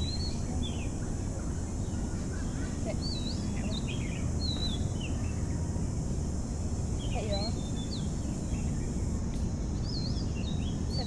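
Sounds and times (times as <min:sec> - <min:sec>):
small birds chirping: 0:00.0 - 0:05.8, 0:06.9 - 0:11.0.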